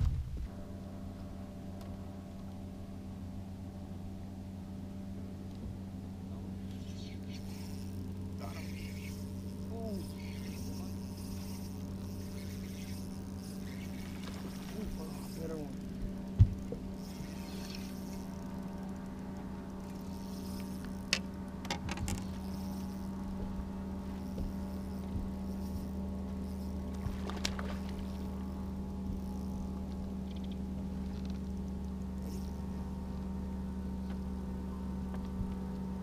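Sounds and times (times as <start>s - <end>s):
electric boat motor humming: 0.5s - 36.0s.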